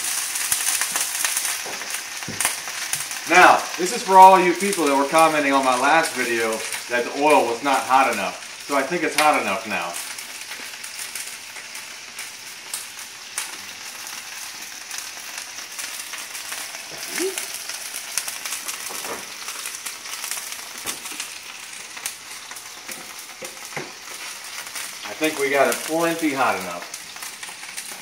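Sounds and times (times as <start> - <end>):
fish frying in hot oil: 0.0 - 28.0.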